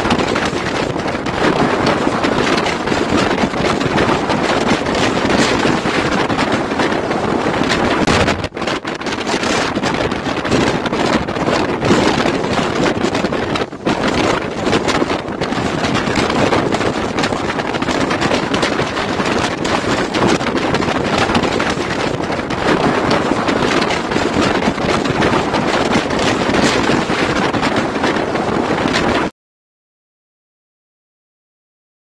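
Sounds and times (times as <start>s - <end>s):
wind buffeting microphone: 0.0s - 29.3s.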